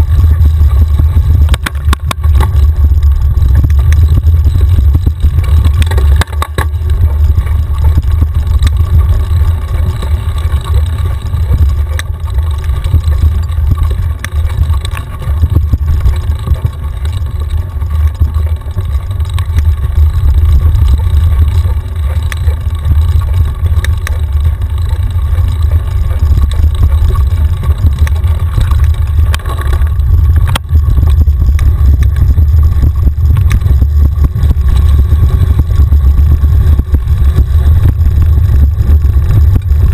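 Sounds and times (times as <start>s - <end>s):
bike clicks and knocks: 0.0s - 39.9s
wind buffeting and trail rumble: 0.0s - 39.9s.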